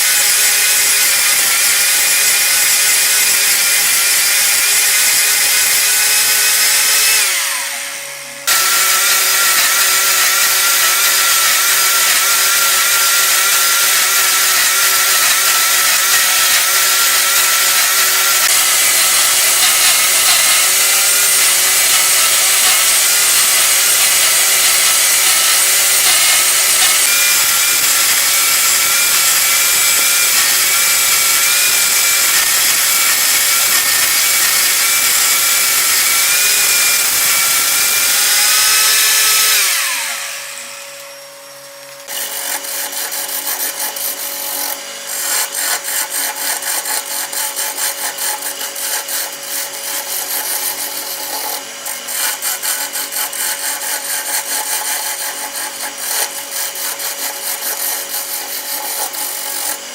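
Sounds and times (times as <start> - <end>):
tool cutting spinning wood: 0.0 - 59.9
wood lathe running: 3.6 - 59.9
scraping strokes on wood: 8.4 - 40.6, 42.0 - 59.8.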